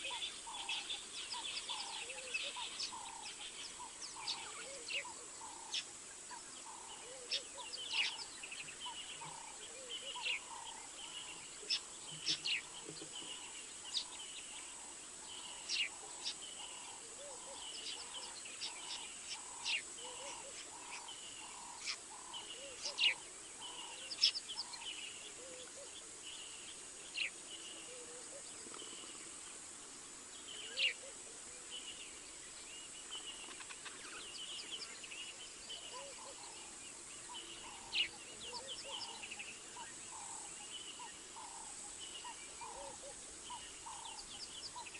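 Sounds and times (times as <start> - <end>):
birds chirping: 0.0 - 44.9
steady high hiss: 0.0 - 44.9.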